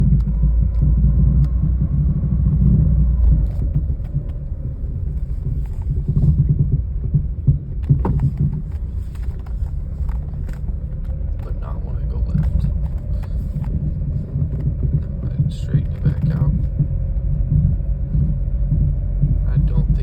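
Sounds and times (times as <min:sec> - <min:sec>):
car driving rumble: 0:00.0 - 0:20.0
knocking and popping noise: 0:00.0 - 0:20.0.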